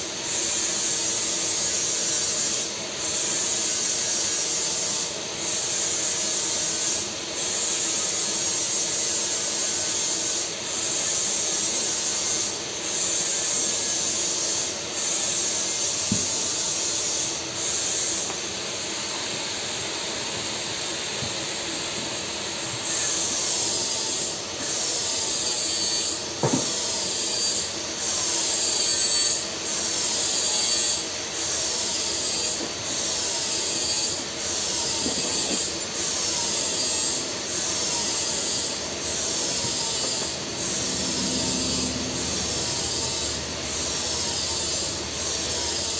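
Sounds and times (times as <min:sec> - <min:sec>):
welding arc hiss: 0:00.0 - 0:45.9.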